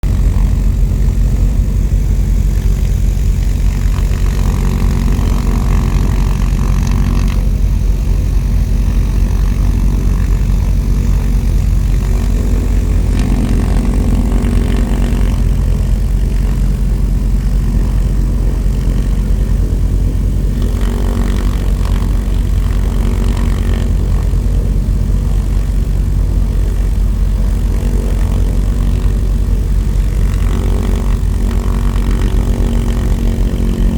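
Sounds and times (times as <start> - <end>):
propeller airplane engine droning: 0.0 - 33.9.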